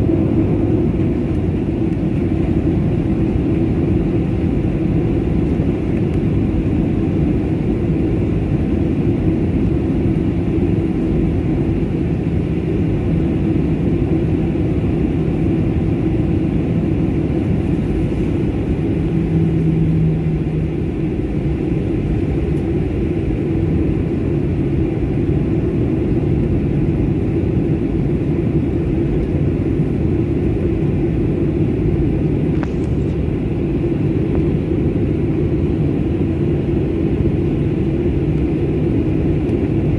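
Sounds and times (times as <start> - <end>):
airliner engines taxiing: 0.0 - 39.9
hum: 0.0 - 39.9.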